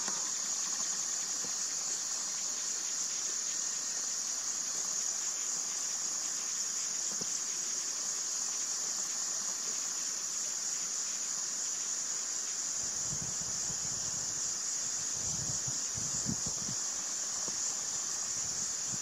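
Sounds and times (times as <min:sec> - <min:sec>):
insects buzzing trill: 0:00.0 - 0:19.0.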